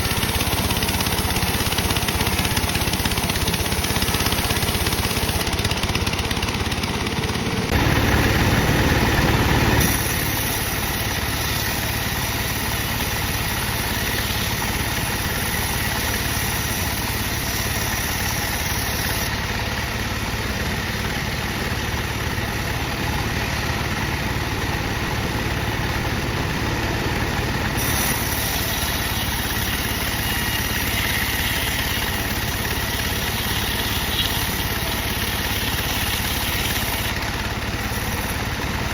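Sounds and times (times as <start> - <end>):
bandsaw machinery droning: 0.0 - 38.9.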